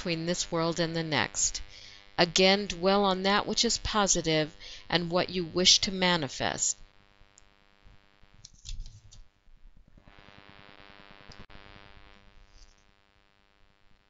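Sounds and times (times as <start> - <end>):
low steady hum and hiss: 0.0 - 14.0.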